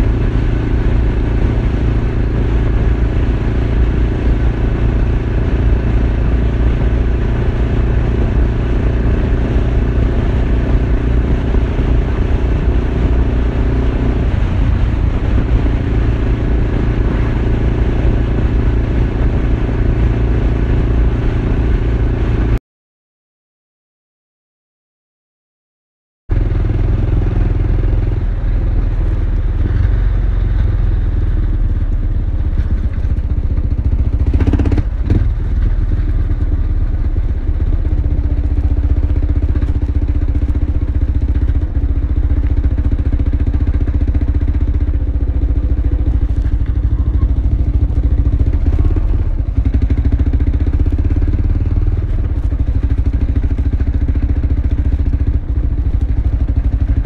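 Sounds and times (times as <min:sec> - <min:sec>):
motorcycle engine rumbling: 0:00.0 - 0:22.6, 0:26.3 - 0:57.0
road noise: 0:00.0 - 0:22.6, 0:26.3 - 0:57.0.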